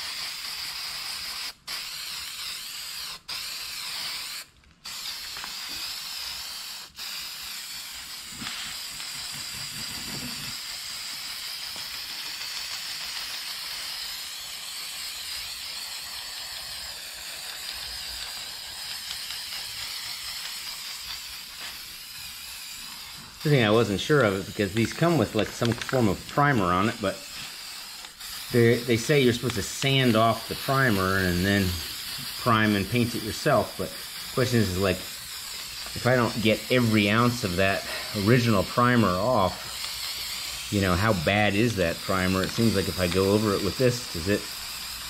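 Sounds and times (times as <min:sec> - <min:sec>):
aerosol spray can hissing: 0:00.0 - 0:45.0.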